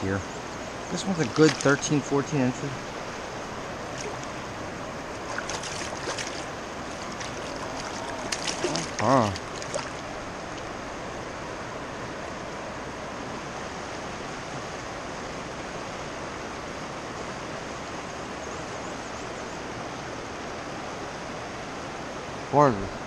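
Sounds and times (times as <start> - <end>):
river current rushing: 0.0 - 18.4, 19.0 - 23.0.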